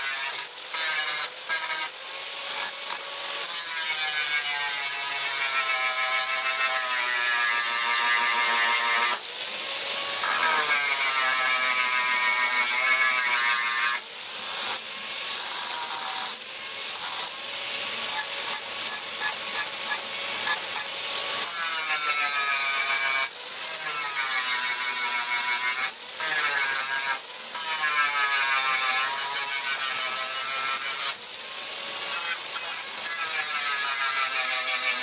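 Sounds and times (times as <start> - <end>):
power grinder on steel: 0.0 - 35.0.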